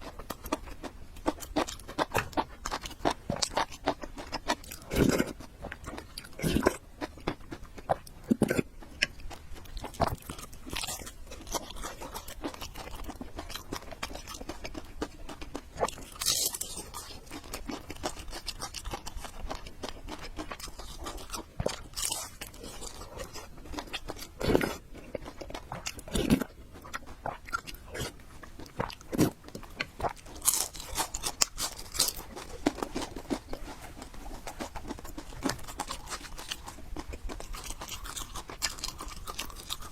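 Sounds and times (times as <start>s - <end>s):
crunchy bites: 0.0s - 39.9s
person chewing: 0.0s - 39.9s.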